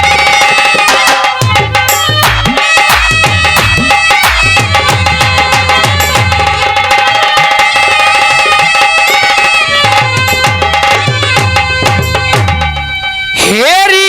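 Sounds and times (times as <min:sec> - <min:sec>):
rapid hand drum strokes: 0:00.0 - 0:12.9
steady held melody: 0:00.0 - 0:14.0.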